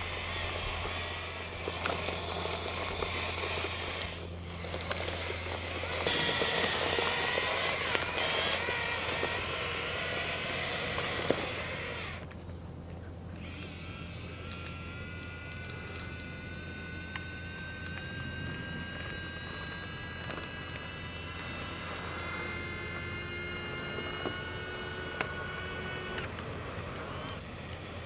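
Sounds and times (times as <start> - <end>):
toy truck motors whining: 0.0 - 28.0.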